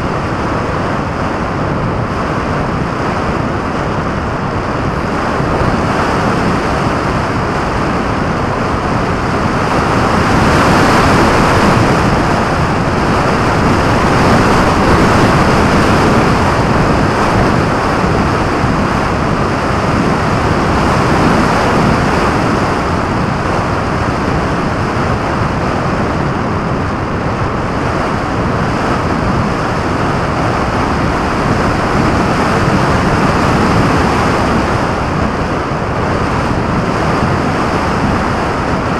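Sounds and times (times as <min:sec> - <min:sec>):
airflow rushing over microphone: 0:00.0 - 0:38.9.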